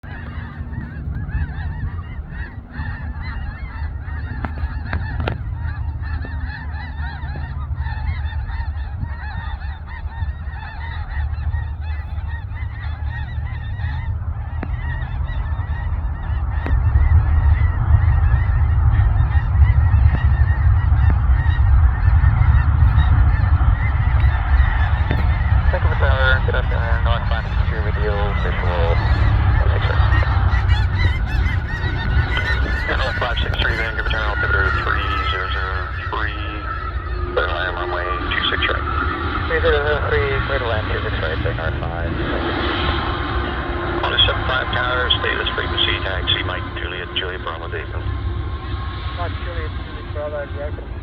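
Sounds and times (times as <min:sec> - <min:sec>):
geese honking: 0:00.0 - 0:51.0
low rumble: 0:00.0 - 0:51.0.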